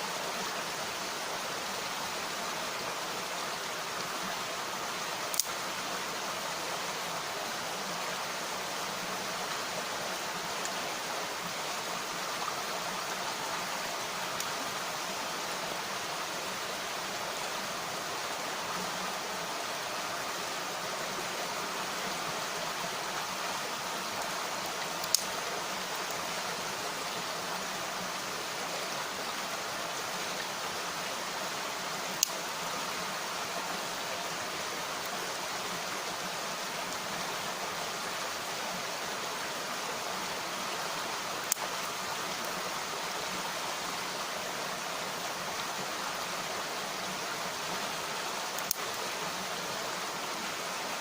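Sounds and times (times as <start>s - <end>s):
stream rushing over rocks: 0.0s - 51.0s.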